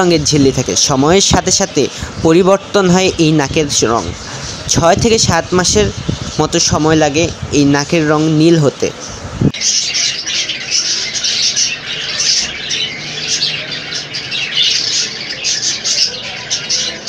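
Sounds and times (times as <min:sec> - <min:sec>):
budgerigars chattering: 0:00.0 - 0:17.0.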